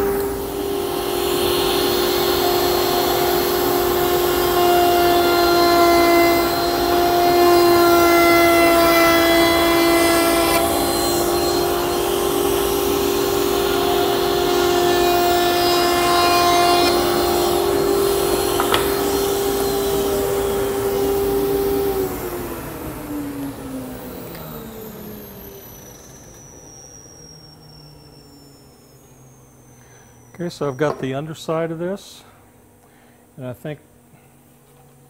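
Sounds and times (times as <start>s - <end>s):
router bit cutting wood: 0.0s - 32.0s
router motor whine: 0.0s - 32.8s.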